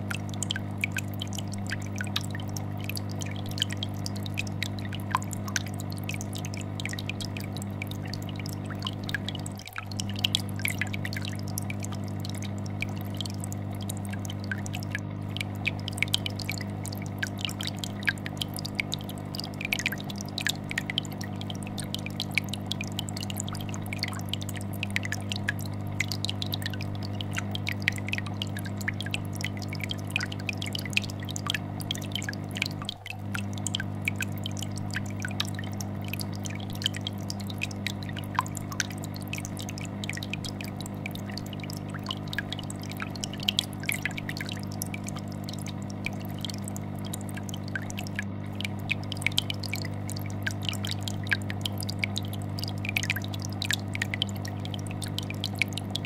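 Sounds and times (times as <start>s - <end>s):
air bubbler bubbling: 0.0s - 56.0s
fish tank filter humming: 0.0s - 56.0s.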